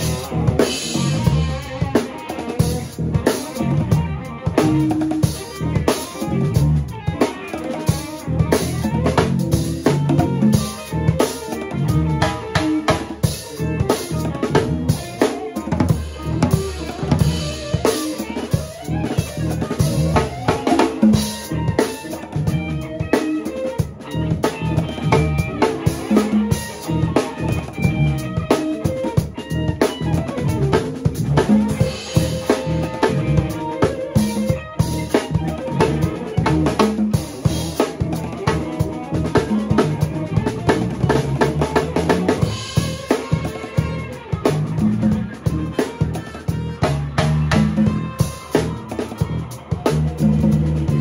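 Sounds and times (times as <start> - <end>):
drum kit groove: 0.0 - 51.0
funk band playing: 0.0 - 51.0.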